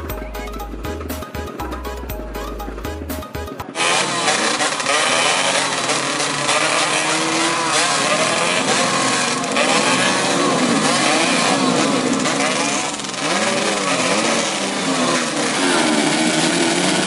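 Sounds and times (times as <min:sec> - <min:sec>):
motocross bikes revving: 0:02.4 - 0:17.0.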